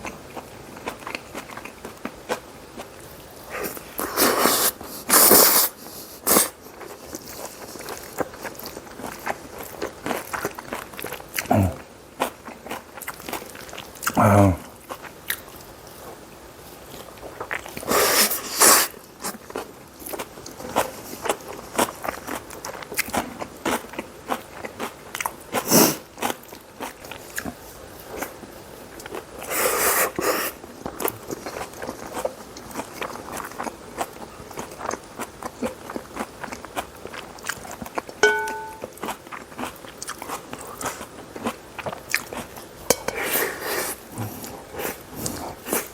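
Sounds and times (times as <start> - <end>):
wet chewing with mouth smacks: 0.0 - 42.6, 43.2 - 45.9.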